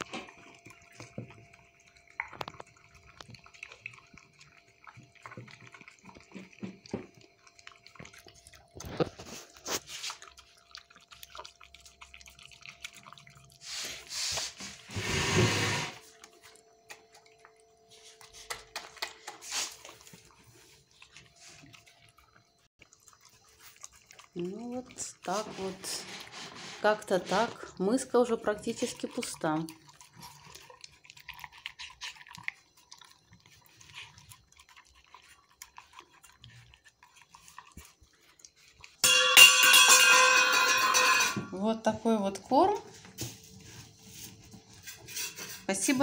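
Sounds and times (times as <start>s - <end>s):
dog eating wet food: 0.0s - 39.6s.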